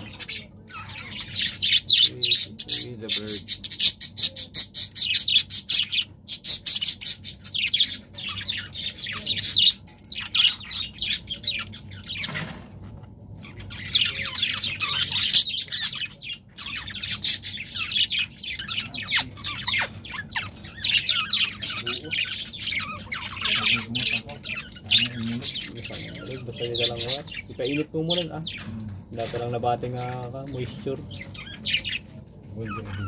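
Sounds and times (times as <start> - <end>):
budgerigars chirping and trilling: 0.0 - 33.0.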